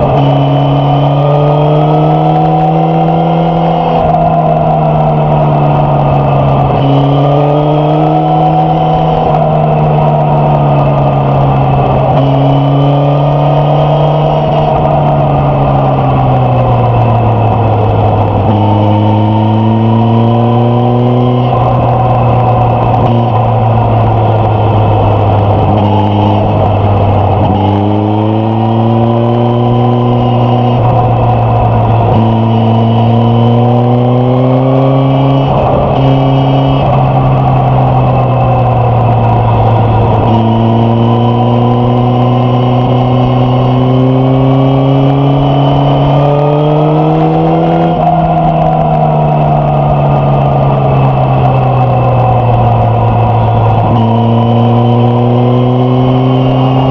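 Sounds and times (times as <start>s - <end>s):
motorcycle engine revving: 0.0s - 56.9s
wind noise: 0.0s - 56.9s.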